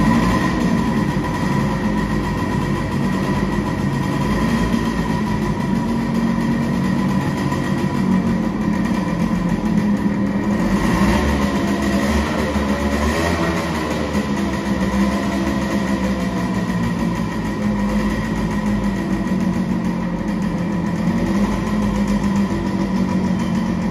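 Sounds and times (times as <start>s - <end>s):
two-stroke motorcycle engine idling: 0.0s - 23.9s.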